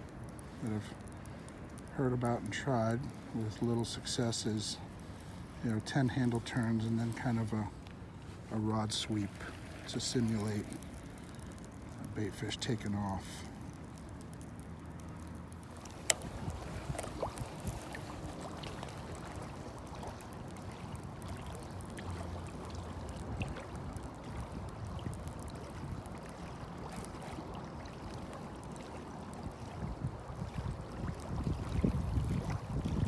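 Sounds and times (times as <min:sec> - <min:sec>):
small ticks: 0:00.0 - 0:33.0
water lapping against boat hull: 0:00.0 - 0:33.0
wind and water rushing: 0:00.0 - 0:33.0.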